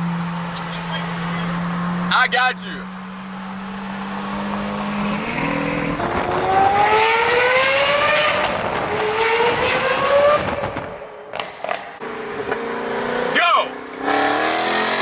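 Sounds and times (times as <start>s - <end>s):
car accelerating hard: 0.0s - 15.0s.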